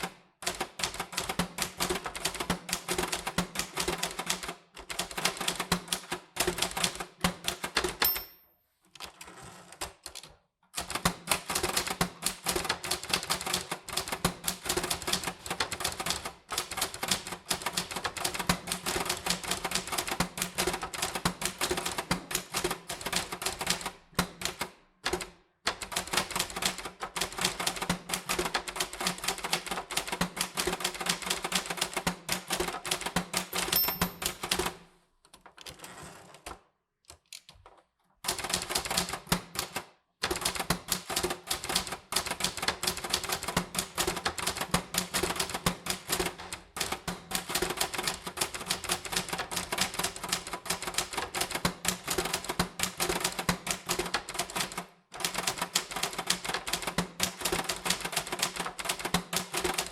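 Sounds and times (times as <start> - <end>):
typewriter keystrokes clacking: 9.8 - 35.8, 37.1 - 59.9.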